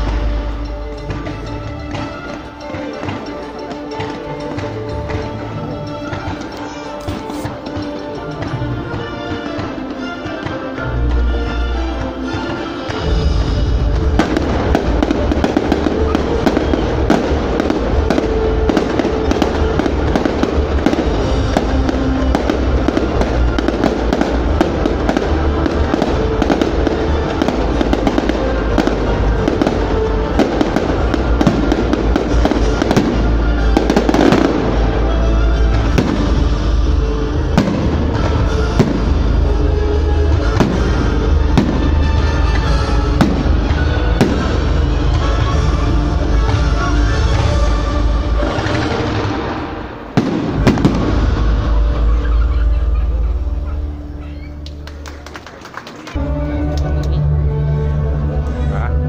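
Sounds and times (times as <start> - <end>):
fireworks bangs and crackles: 0.0 - 56.2
music soundtrack: 0.0 - 59.0.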